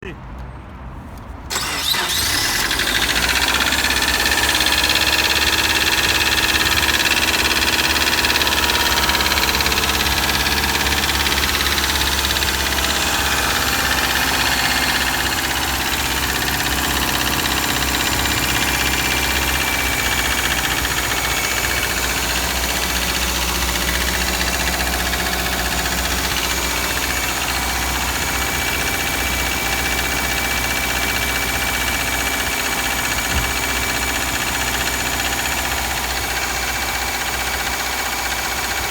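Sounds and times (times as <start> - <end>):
car engine idling with knock: 2.7 - 38.9.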